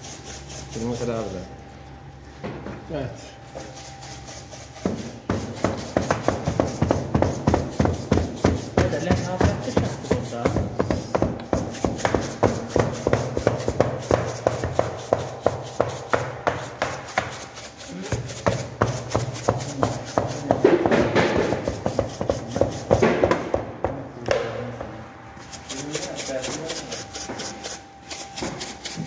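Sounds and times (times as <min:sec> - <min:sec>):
low hum of machinery: 0:00.0 - 0:29.0.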